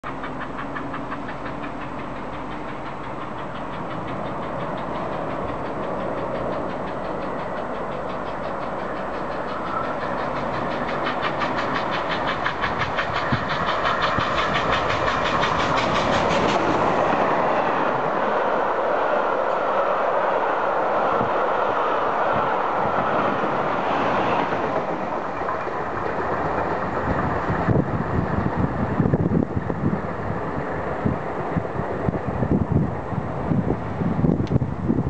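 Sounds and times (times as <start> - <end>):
rush of passing train: 0.0 - 35.0
steam locomotive exhaust beats: 0.0 - 35.0.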